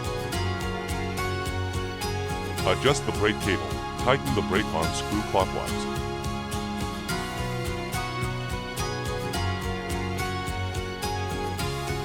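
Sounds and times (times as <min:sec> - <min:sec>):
gentle instrumental music: 0:00.0 - 0:12.0.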